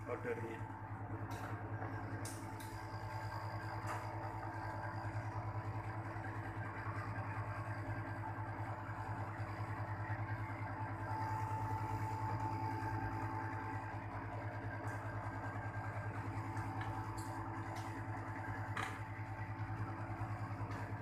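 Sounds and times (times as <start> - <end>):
air conditioner compressor hum: 0.0 - 21.0
condenser fan: 0.0 - 21.0.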